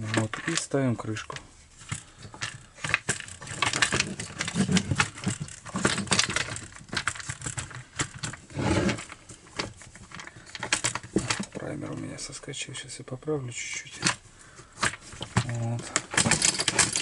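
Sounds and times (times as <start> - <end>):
plastic cover clicking and rattling: 0.0 - 12.3, 13.8 - 17.0
plastic rubbing: 0.0 - 12.4, 13.8 - 17.0.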